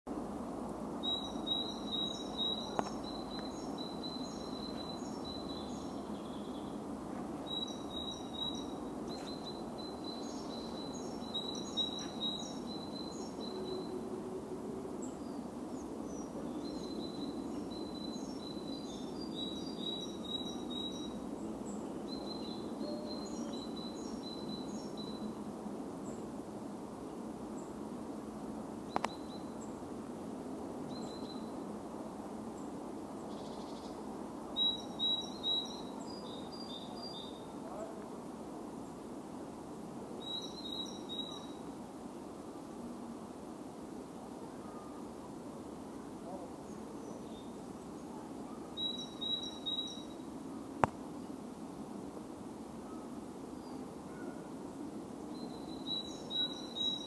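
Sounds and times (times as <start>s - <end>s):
songbird chirping: 0.9s - 14.2s, 14.9s - 28.1s, 28.8s - 30.0s, 30.8s - 39.2s, 39.9s - 41.8s, 44.2s - 51.4s, 52.8s - 57.0s.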